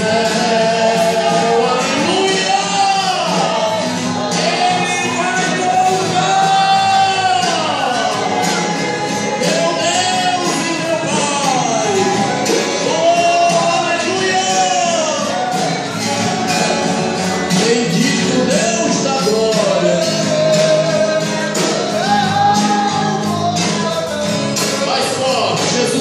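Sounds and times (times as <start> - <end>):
band playing steady beat: 0.0 - 26.0
person singing with vibrato: 0.0 - 26.0.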